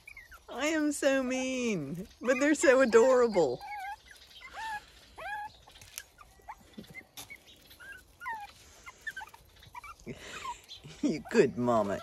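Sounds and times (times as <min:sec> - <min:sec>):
puppies whimpering: 0:00.0 - 0:12.0.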